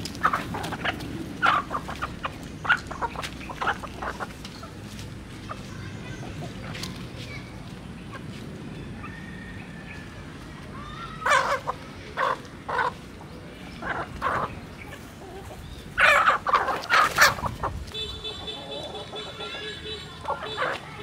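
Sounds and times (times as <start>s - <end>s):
chickens clucking and squawking: 0.0s - 21.0s.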